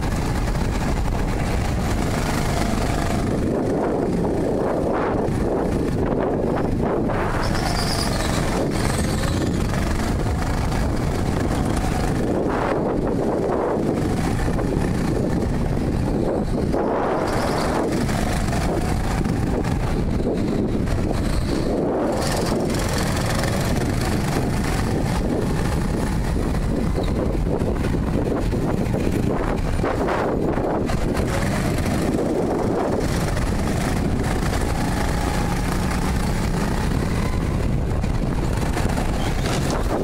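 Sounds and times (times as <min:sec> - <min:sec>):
go-kart engine: 0:00.0 - 0:40.0
wind rumble on microphone: 0:00.0 - 0:40.0.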